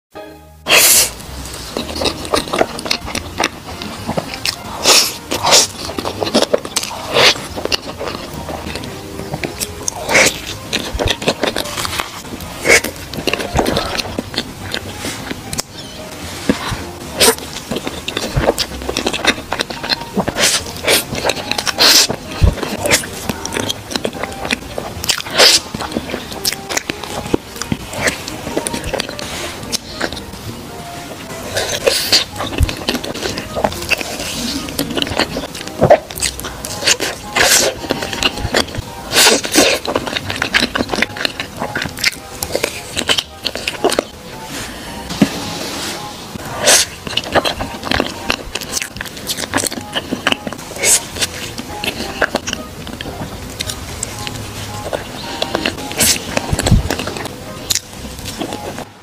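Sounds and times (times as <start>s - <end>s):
sucking noises: 0.6s - 52.5s.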